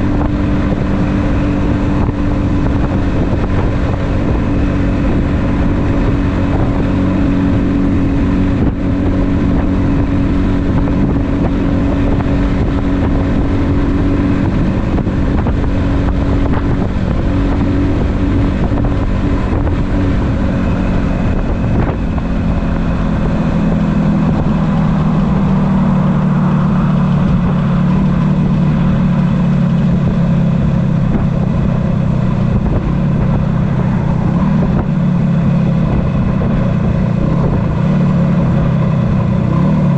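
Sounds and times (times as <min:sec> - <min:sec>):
wind rushing: 0:00.0 - 0:39.2
motorcycle engine running: 0:00.0 - 0:39.9.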